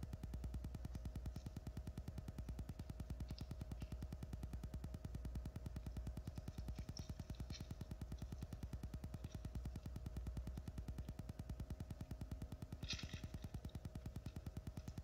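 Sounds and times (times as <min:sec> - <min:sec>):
faint high ticks: 0:00.0 - 0:15.0
steady hum: 0:00.0 - 0:15.0.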